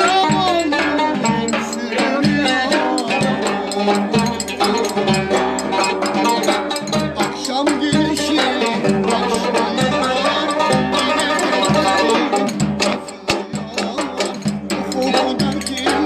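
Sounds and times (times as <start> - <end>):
folk dance melody: 0.0 - 16.0
percussion beat: 0.0 - 16.0.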